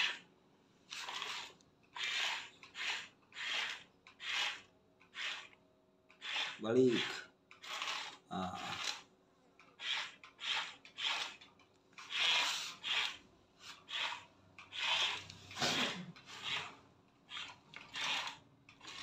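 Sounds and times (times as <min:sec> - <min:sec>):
toy motors and gears whirring: 0:00.0 - 0:00.3, 0:00.9 - 0:19.0.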